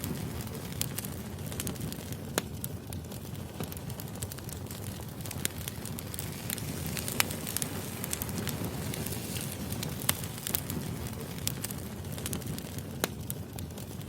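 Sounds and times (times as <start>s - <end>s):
logs crackling and popping: 0.0s - 14.0s
low rumble of fire: 0.0s - 14.0s.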